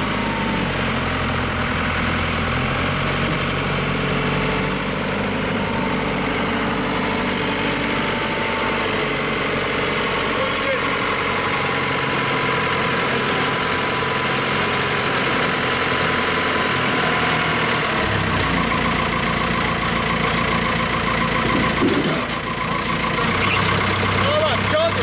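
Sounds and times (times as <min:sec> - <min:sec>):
telehandler diesel engine running: 0:00.0 - 0:25.0.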